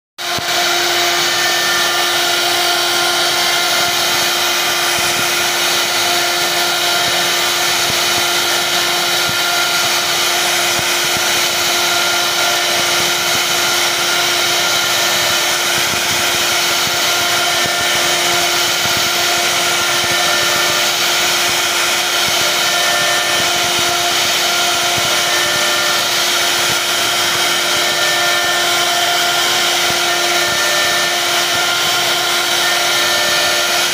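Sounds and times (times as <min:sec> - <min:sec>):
router spindle whining: 0:00.2 - 0:33.9.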